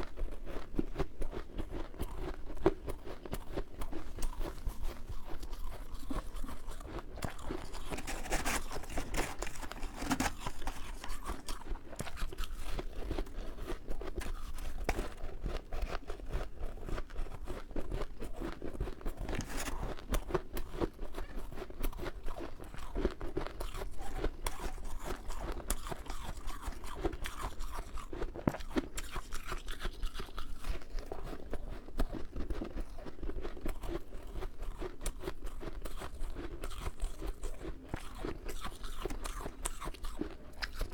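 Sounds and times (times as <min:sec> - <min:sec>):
chewing crunchy frost: 0:00.0 - 0:40.9.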